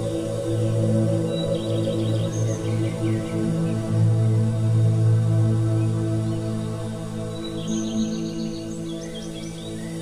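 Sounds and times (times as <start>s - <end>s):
ambient drone music: 0.0s - 10.0s.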